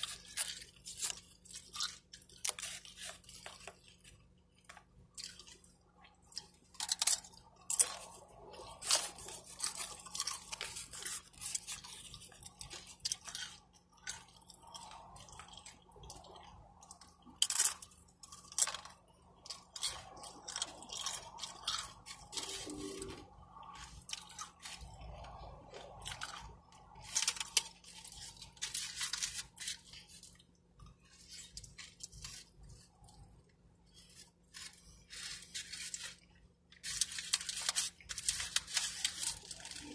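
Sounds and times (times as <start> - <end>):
chewing and mouth noises: 0.0 - 39.9.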